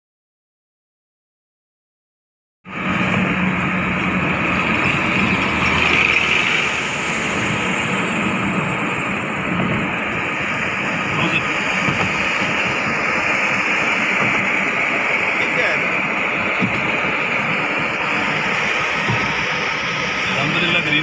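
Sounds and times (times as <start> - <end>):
road traffic from moving car: 2.6 - 21.0
truck passing close: 2.7 - 21.0.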